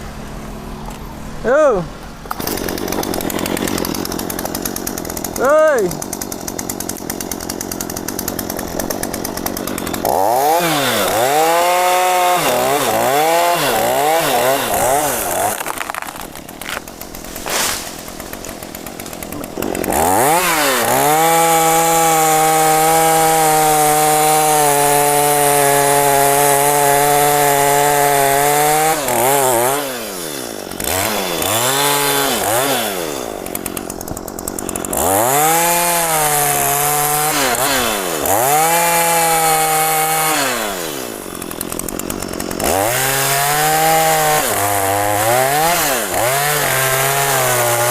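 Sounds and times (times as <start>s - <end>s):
chainsaw revving and cutting wood: 0.0s - 47.9s.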